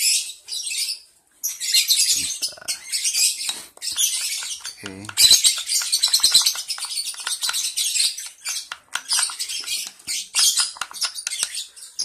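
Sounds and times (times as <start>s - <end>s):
bird chicks chirping: 0.0s - 12.0s.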